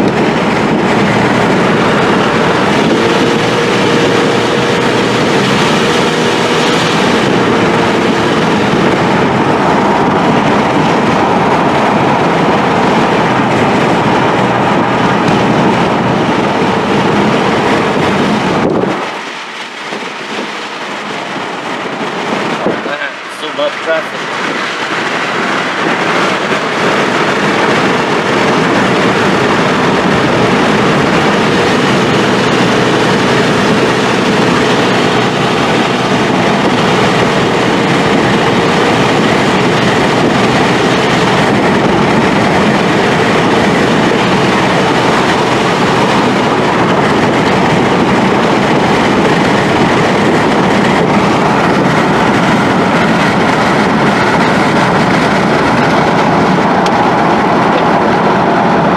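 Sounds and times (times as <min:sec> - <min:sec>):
road noise: 0:00.0 - 0:58.9
truck engine and exhaust: 0:00.0 - 0:58.9.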